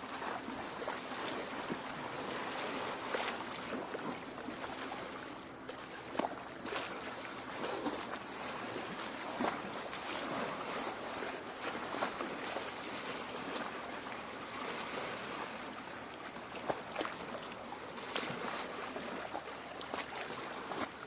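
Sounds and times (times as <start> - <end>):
water lapping against shore: 0.0 - 21.0.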